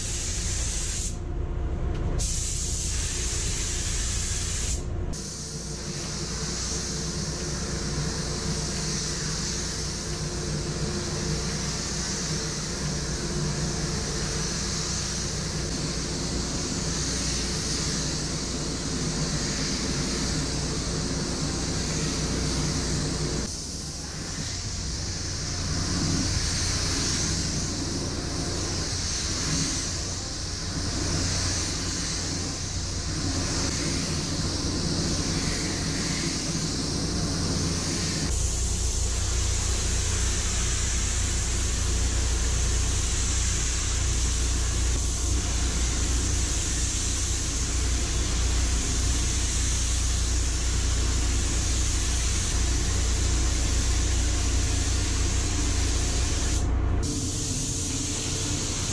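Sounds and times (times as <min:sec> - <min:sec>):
paint spray gun hissing: 0:00.0 - 0:01.2, 0:02.2 - 0:58.9.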